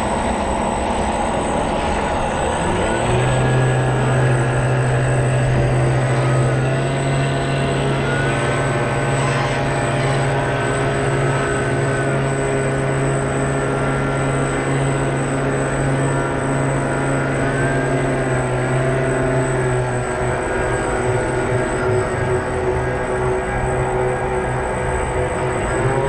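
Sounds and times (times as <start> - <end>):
electric motor hum and whine: 0.0 - 26.0
thin high whine: 0.0 - 26.0.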